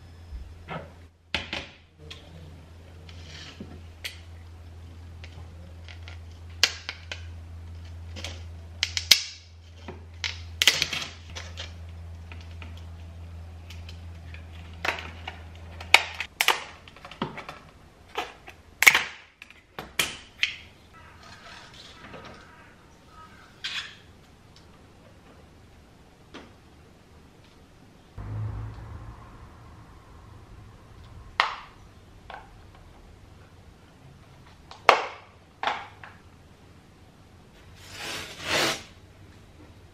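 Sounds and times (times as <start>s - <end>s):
low steady hum: 0.0s - 16.3s, 20.7s - 37.8s.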